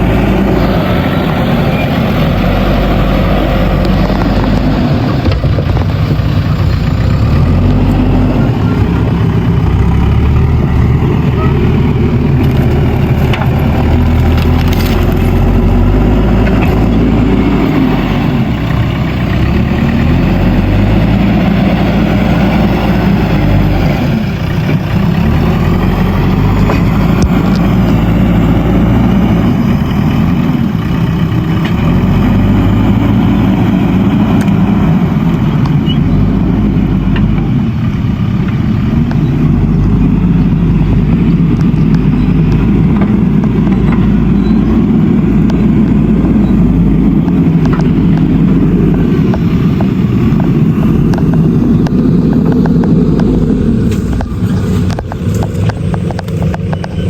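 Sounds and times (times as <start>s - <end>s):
diesel engine running hard: 0.0s - 57.0s.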